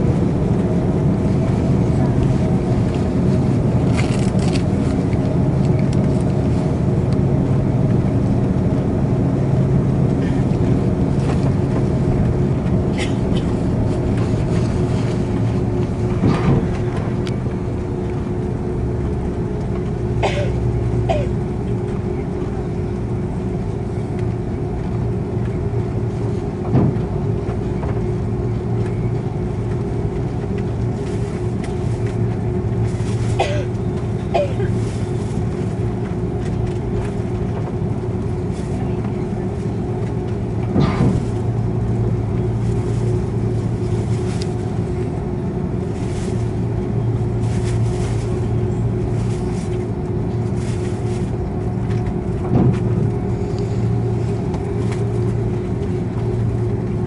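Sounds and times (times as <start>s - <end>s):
jet engine hum: 0.0s - 57.0s.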